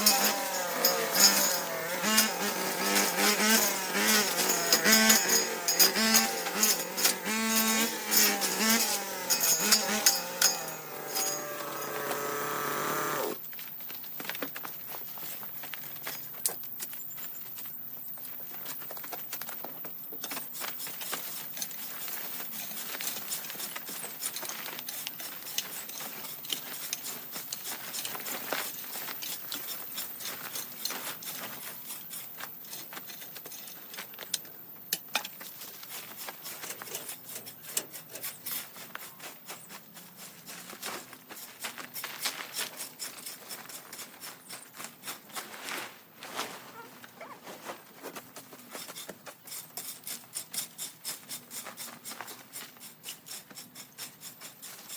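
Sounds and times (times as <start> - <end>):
scraping and clicking hand strokes: 0.0 - 13.4, 20.2 - 45.9, 48.0 - 54.9.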